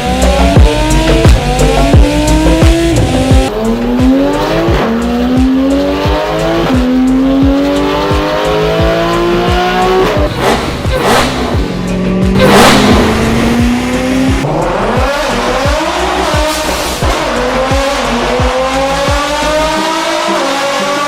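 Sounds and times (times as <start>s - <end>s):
drum beat: 0.0s - 19.9s
sports car engine accelerating: 0.0s - 21.0s.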